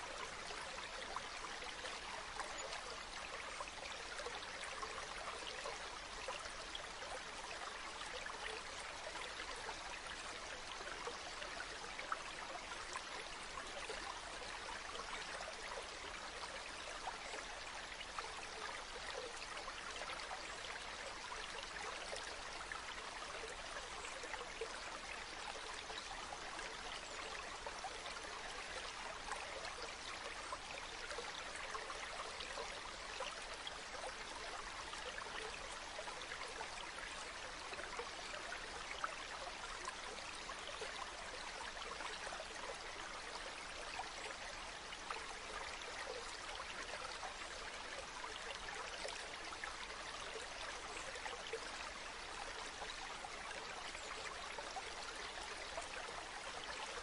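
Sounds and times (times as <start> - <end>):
stream babbling over pebbles: 0.0 - 57.0.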